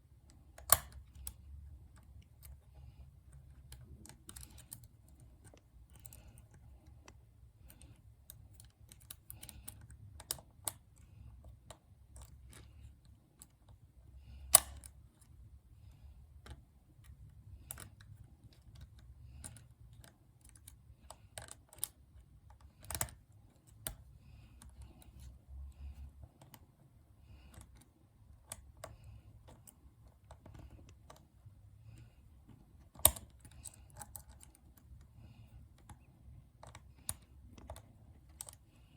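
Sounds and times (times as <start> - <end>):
lock pick clicking and scraping: 0.3 - 38.9.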